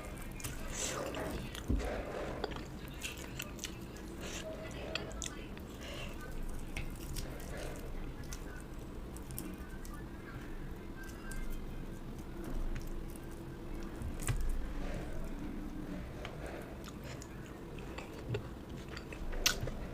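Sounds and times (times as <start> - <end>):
chewing with wet mouth noises: 0.0 - 15.5, 16.2 - 19.9.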